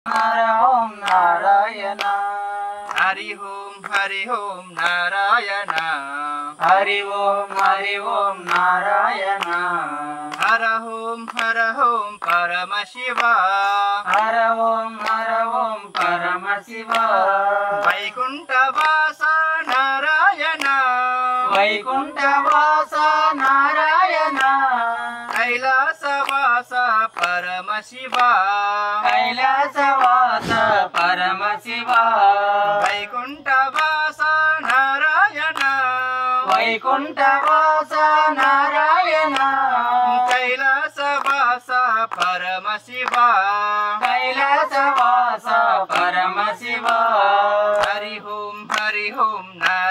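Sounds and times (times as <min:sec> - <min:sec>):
hands clapping: 0:00.1 - 0:17.2, 0:17.8 - 0:49.9
group singing: 0:00.1 - 0:49.9.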